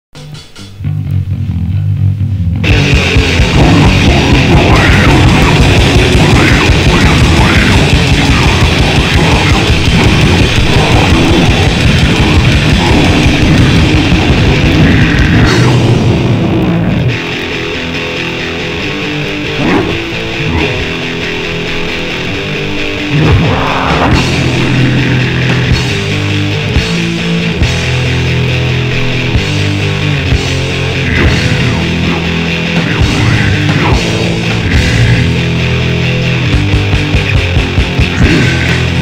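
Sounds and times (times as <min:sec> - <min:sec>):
death metal band playing loud: 0:00.2 - 0:39.0.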